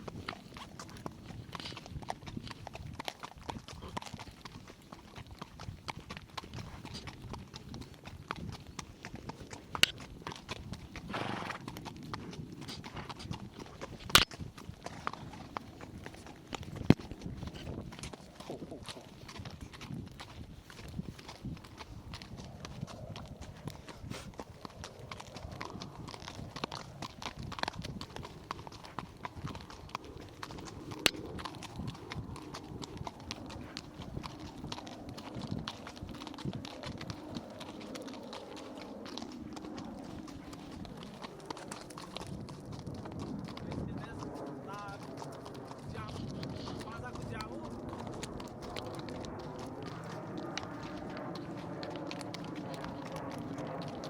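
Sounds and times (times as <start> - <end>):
horse hooves clip-clopping: 0.0 - 54.0.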